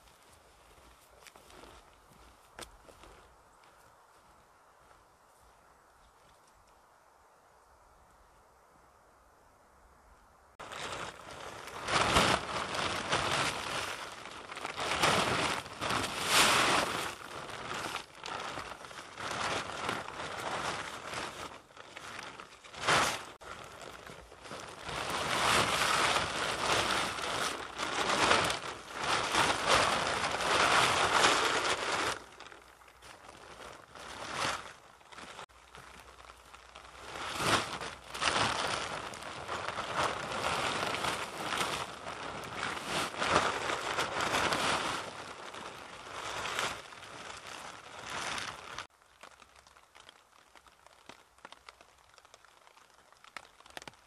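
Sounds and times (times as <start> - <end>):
plastic tarp crinkling: 10.6 - 54.0.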